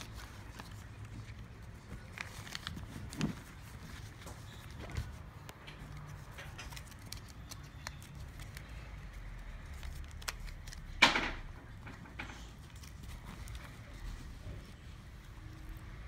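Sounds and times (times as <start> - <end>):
leather pouch handling clicks and rustles: 0.0 - 16.0.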